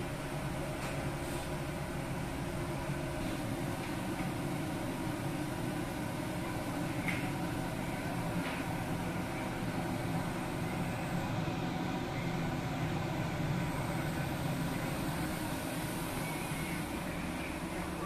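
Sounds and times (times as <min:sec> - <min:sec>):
ship machinery drone: 0:00.0 - 0:18.0.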